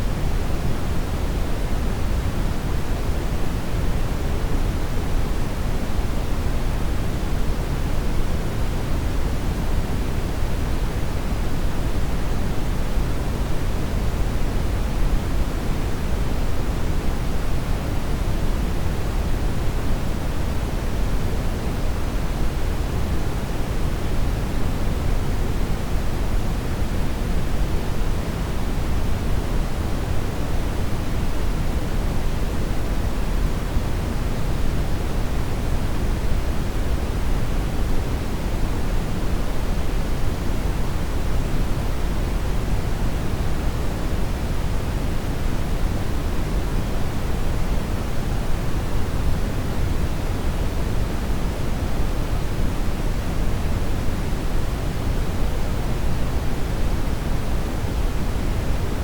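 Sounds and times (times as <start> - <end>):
steady rushing noise hiss: 0.0 - 59.0.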